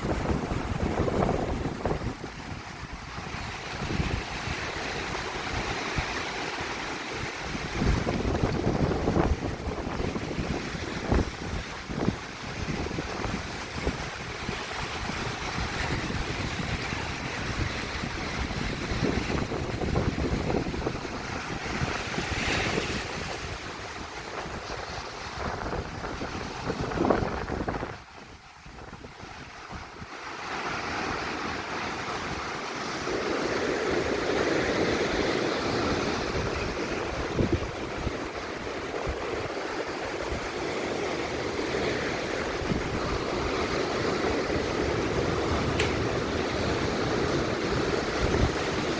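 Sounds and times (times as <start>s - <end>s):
ocean surf washing in: 0.0s - 48.9s
strong wind buffeting microphone: 0.0s - 48.9s.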